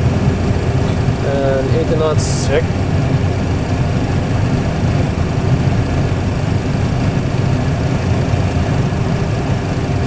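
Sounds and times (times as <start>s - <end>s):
jet engine deep rumble: 0.0s - 10.0s.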